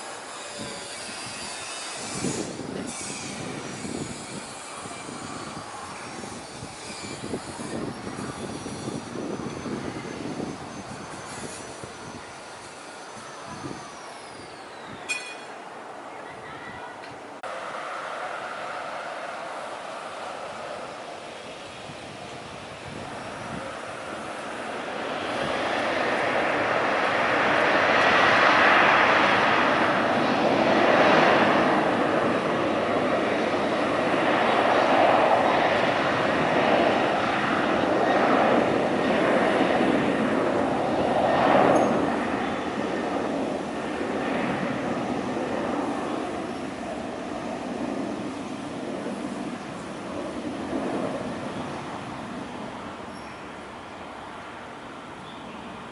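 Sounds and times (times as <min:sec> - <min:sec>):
jet engines running: 0:00.0 - 0:16.4, 0:17.1 - 0:55.9.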